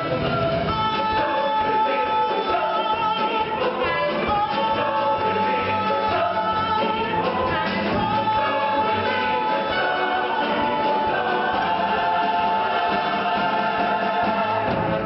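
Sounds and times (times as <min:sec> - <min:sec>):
ensemble singing in chorus: 0:00.0 - 0:15.0.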